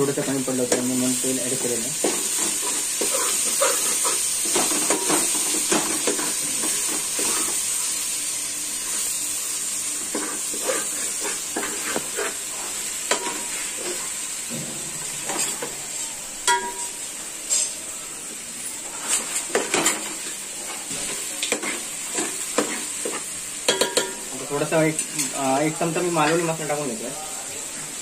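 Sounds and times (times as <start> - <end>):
chicken sizzling in a pot: 0.0 - 28.0.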